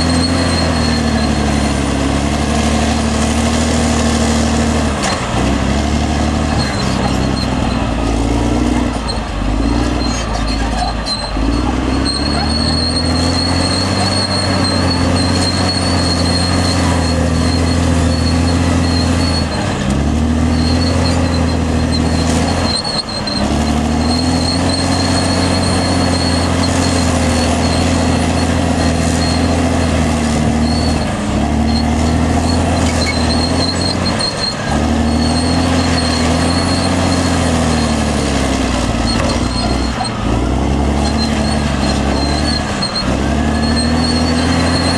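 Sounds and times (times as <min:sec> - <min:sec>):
bulldozer diesel engine under load: 0:00.0 - 0:44.9.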